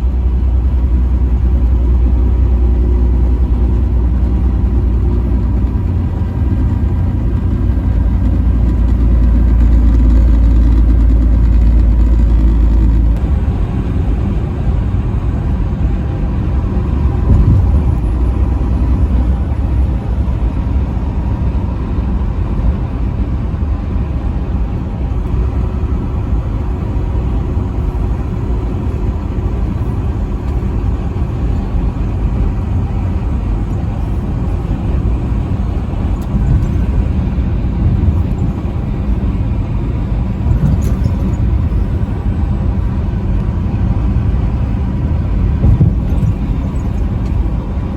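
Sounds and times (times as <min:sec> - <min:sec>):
truck driving on highway: 0:00.0 - 0:47.9.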